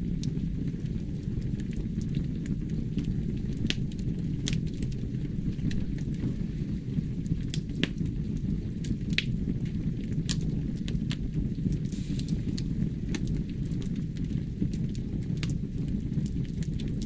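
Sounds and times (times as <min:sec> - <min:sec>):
fire rumbling in fireplace: 0:00.0 - 0:17.0
wood crackling and popping: 0:00.0 - 0:17.0.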